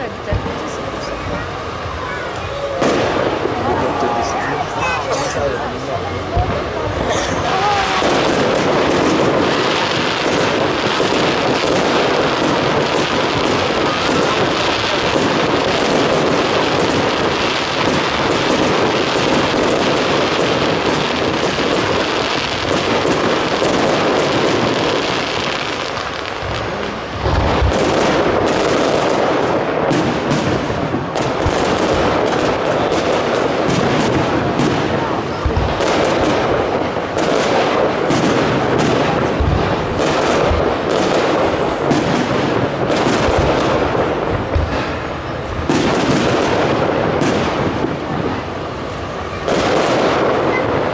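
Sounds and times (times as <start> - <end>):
deep firework boom: 0.0 - 50.9
fireworks crackling bangs: 0.0 - 50.9.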